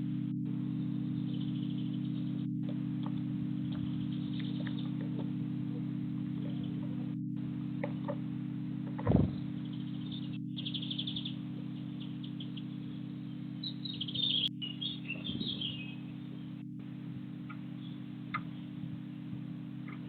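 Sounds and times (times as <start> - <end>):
steady low hum: 0.0 - 20.0
small birds chirping: 0.6 - 20.0.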